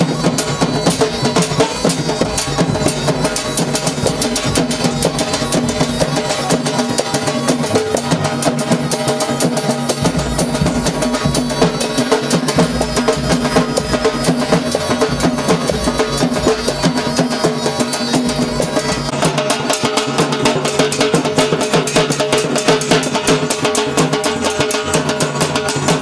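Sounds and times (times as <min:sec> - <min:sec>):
dhol drum fast rhythm: 0:00.0 - 0:26.0.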